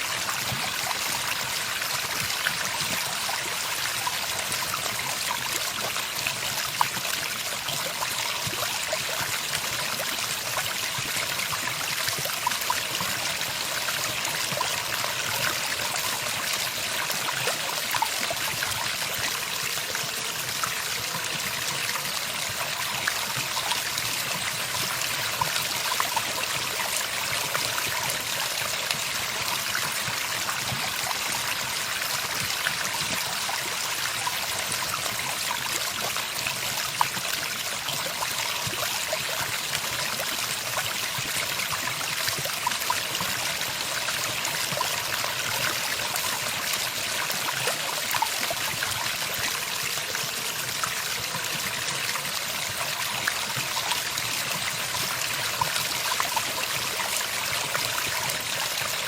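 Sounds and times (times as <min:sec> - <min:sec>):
trickling stream: 0:00.0 - 0:59.0.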